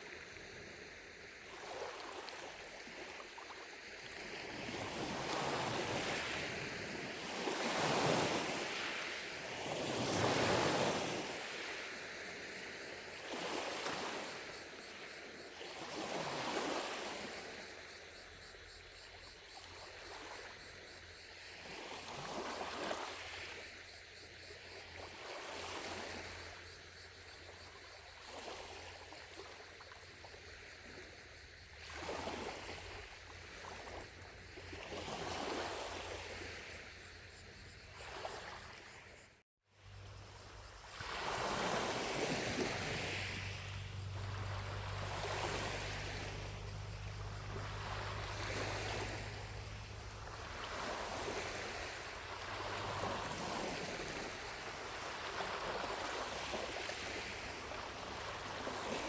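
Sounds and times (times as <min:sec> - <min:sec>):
distant cicadas trilling: 0:00.0 - 0:59.0
waves lapping against shore: 0:00.0 - 0:59.0.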